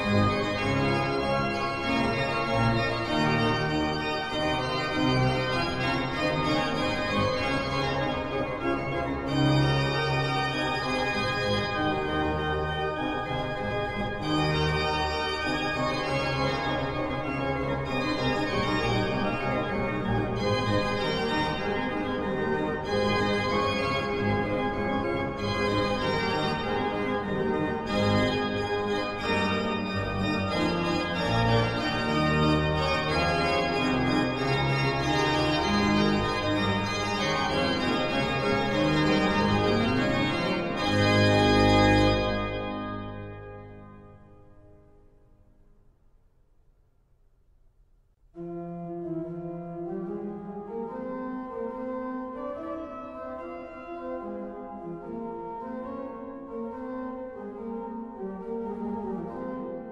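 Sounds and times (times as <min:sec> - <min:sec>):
church organ playing chords: 0:00.0 - 0:45.1, 0:48.4 - 0:59.9.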